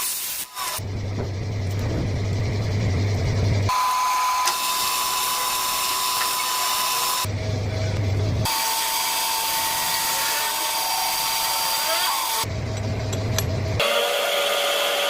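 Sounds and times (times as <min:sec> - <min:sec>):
metal lathe whine: 0:00.5 - 0:15.0
low motor hum: 0:00.6 - 0:14.1.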